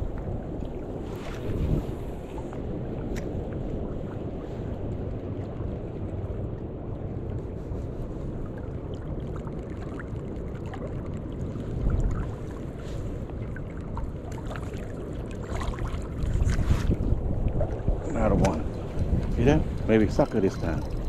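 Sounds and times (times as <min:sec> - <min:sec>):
light ticks and splashes: 0:00.0 - 0:01.5, 0:02.2 - 0:21.0
flowing river water: 0:00.0 - 0:21.0
wind buffeting microphone: 0:00.0 - 0:21.0.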